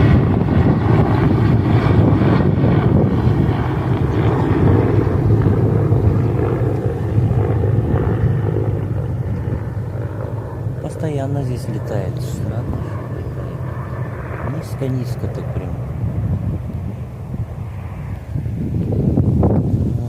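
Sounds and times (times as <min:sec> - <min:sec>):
helicopter passing over: 0:00.0 - 0:20.0.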